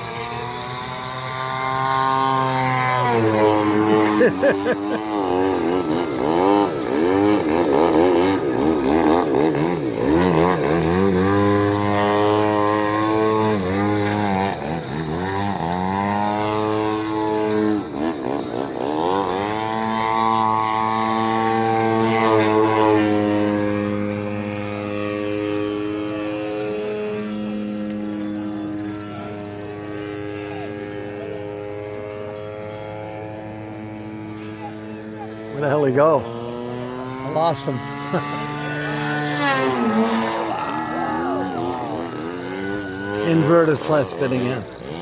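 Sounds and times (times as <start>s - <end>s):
model airplane engine: 0.0s - 45.0s.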